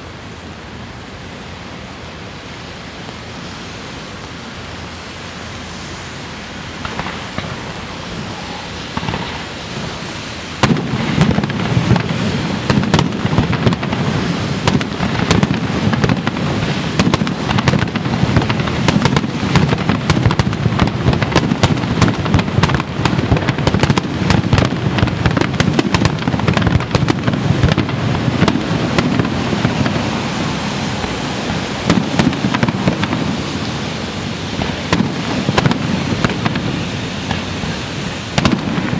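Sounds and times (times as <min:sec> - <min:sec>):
firework booms: 0:06.8 - 0:38.9
firework shell bursts and crackling: 0:06.8 - 0:38.9.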